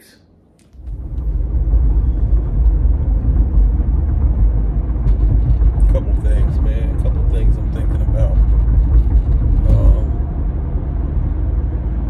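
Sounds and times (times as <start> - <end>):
car cabin road rumble: 0.6 - 12.0.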